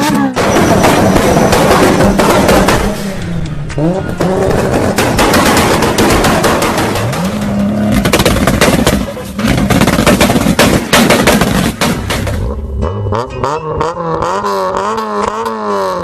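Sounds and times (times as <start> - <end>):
car engine revving: 0.3 - 10.5, 11.6 - 16.0.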